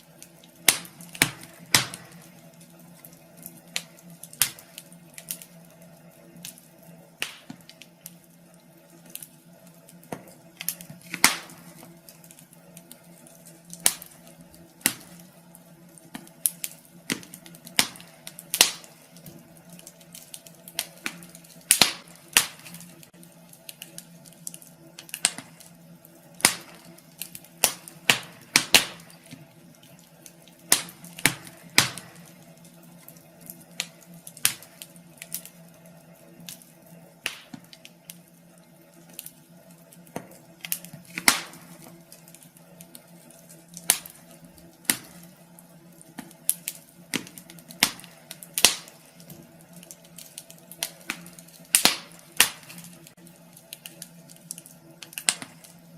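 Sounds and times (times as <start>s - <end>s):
faint steady hum: 0.0s - 55.9s
wood fire crackling and popping: 0.0s - 55.9s.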